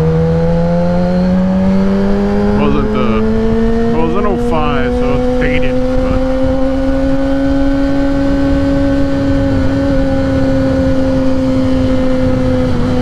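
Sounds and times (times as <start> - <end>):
motorcycle engine running: 0.9 - 13.0
low wind rumble: 1.0 - 13.0.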